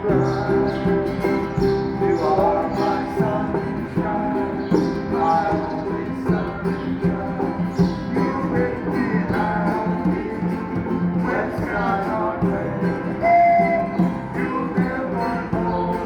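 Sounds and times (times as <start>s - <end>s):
street band playing country tune: 0.0s - 16.0s.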